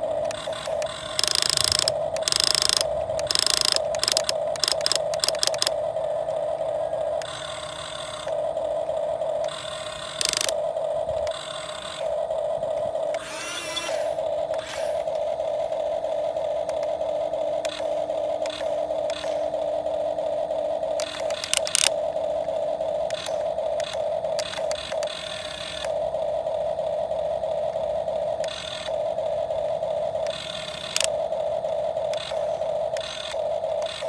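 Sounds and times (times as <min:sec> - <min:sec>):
electric motor whining: 0:00.0 - 0:26.4, 0:27.8 - 0:34.0
gears clicking and rattling: 0:00.0 - 0:26.4, 0:28.0 - 0:34.0.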